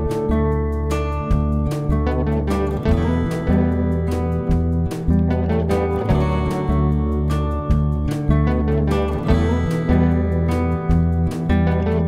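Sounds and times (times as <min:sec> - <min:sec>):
plucked guitar notes: 0:00.0 - 0:12.0
sustained bass notes: 0:00.0 - 0:12.0.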